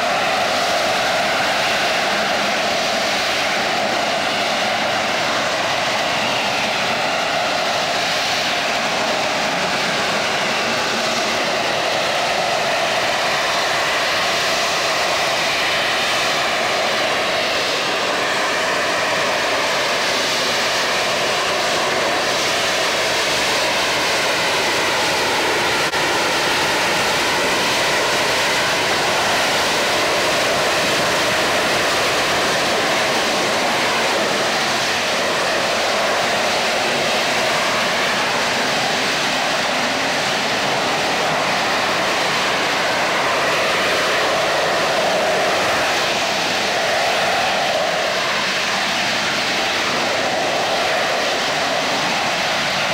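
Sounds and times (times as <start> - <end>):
loud steady jet noise: 0.0 - 52.9.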